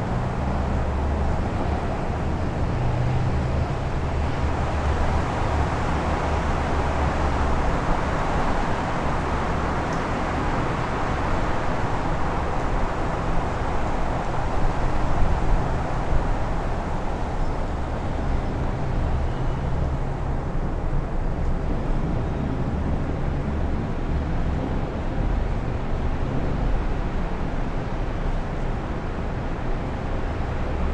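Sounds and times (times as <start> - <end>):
strong wind gusts: 0.0 - 30.9.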